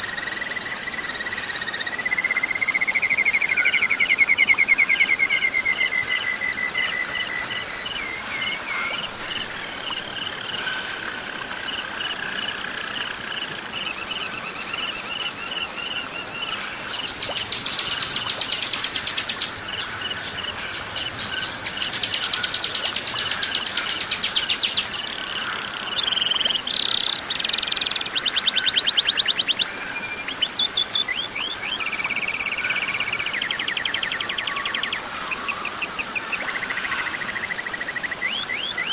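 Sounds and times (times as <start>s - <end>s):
crickets chirping: 0.0s - 35.6s
songbirds singing: 0.0s - 38.9s.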